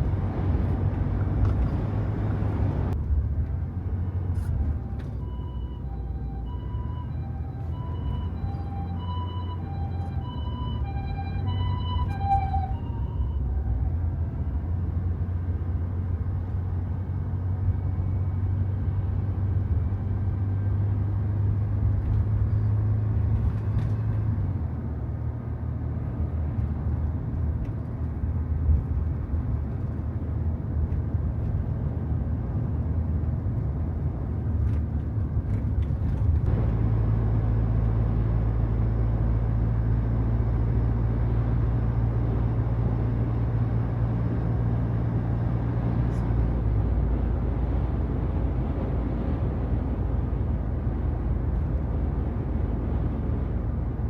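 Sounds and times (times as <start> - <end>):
van engine and road rumble: 0.0 - 54.0.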